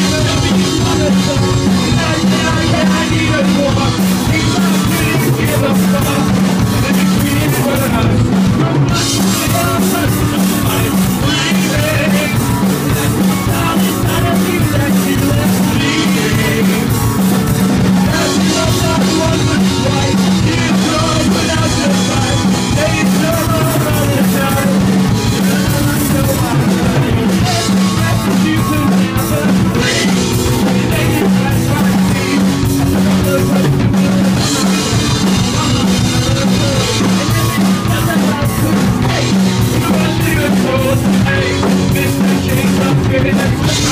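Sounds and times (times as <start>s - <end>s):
bass guitar: 0.0s - 43.9s
drum kit: 0.0s - 43.9s
electric guitar: 0.0s - 43.9s.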